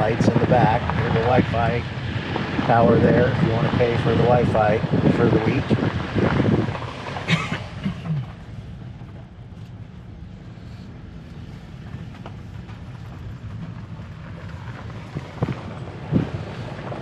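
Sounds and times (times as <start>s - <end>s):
vehicle rumble from cabin: 0.0s - 17.0s.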